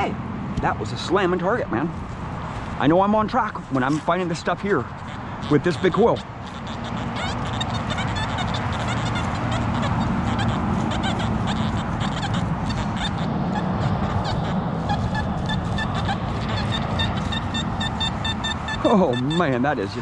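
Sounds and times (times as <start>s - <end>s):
flock of birds calling: 2.6s - 20.0s.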